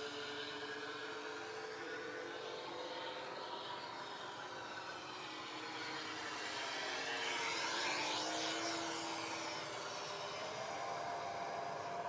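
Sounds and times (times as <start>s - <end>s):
model plane flying past: 0.0s - 12.0s.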